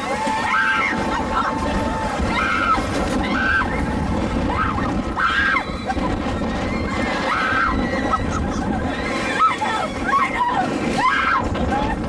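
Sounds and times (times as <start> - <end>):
roller coaster rumble: 0.0 - 12.0.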